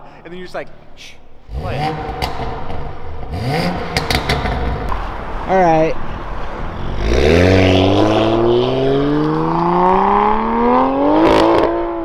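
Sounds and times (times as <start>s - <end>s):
exhaust crack: 1.4s - 12.0s
car engine accelerating hard: 1.5s - 5.5s, 6.1s - 12.0s.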